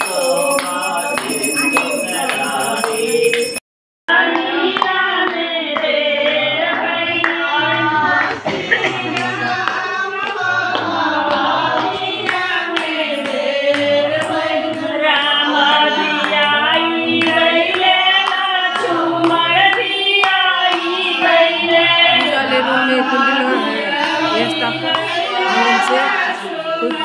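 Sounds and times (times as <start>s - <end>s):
devotional song singing: 0.0s - 27.0s
rhythmic hand-clapping: 0.0s - 27.0s.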